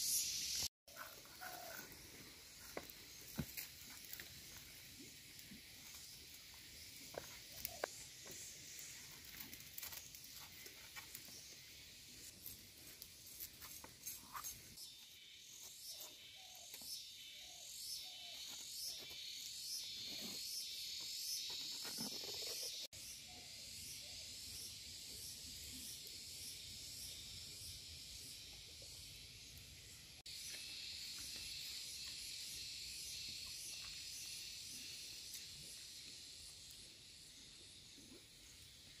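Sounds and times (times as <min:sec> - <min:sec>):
insect chorus with high buzz: 0:00.0 - 0:39.0.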